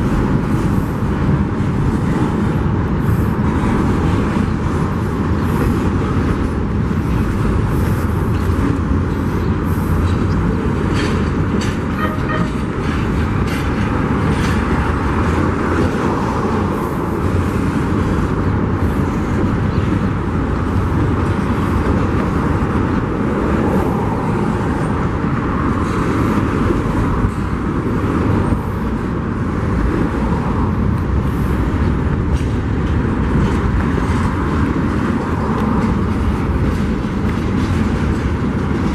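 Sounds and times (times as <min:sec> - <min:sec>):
steel wheels rumbling on rails: 0:00.0 - 0:38.9.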